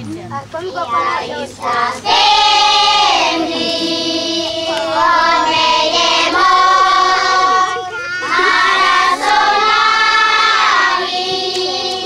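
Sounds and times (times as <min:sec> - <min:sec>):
music with high singing voices: 0:01.4 - 0:12.0.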